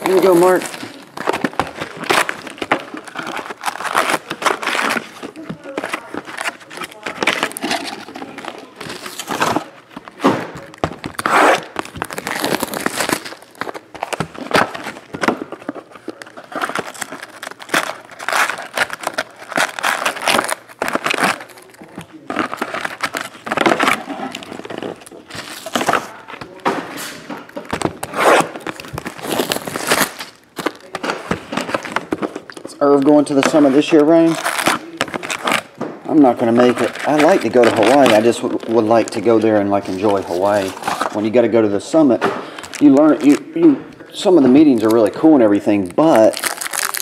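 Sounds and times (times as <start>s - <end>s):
foil packs crinkling: 0.0s - 47.0s.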